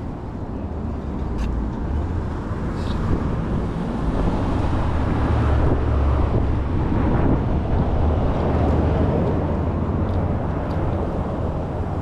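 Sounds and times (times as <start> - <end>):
low rumble of tyres on road: 0.0 - 12.0
wind rushing over microphone: 1.8 - 12.0.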